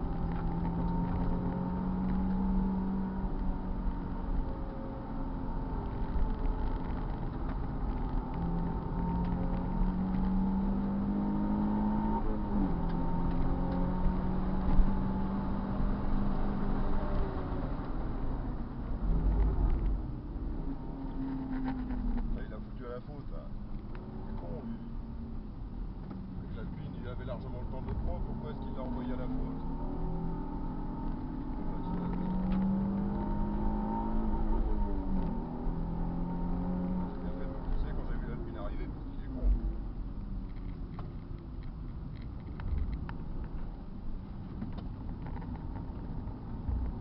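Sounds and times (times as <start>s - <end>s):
car engine rumbling: 0.0s - 47.0s.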